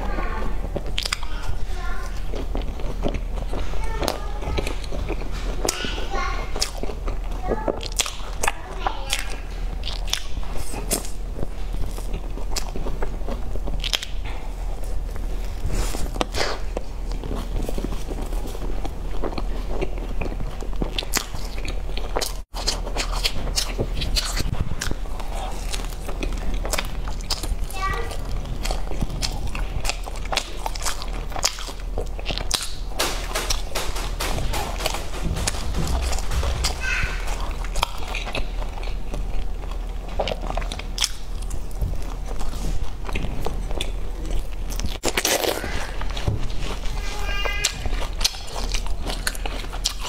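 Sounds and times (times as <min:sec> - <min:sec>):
low steady hum: 0:00.0 - 0:50.0
chewing with wet mouth clicks: 0:00.7 - 0:05.9, 0:06.5 - 0:15.3, 0:16.1 - 0:33.6, 0:37.3 - 0:46.2, 0:47.6 - 0:50.0.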